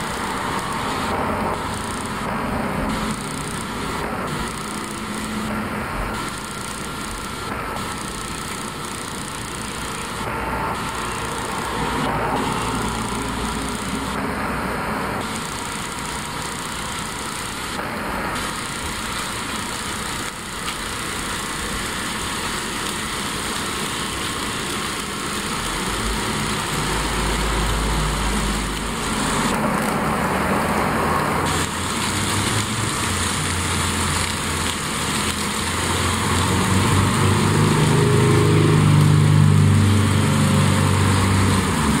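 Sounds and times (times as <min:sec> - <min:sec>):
small electric motors whirring: 0:00.0 - 0:42.0.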